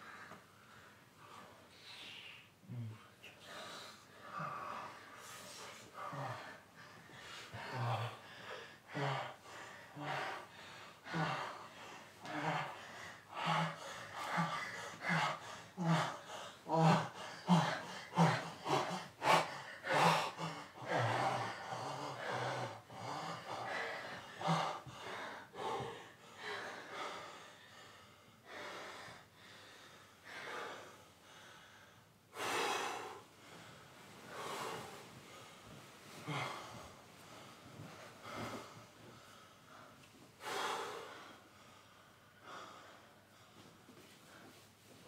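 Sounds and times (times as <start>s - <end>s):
person breathing heavily: 0.0s - 44.6s.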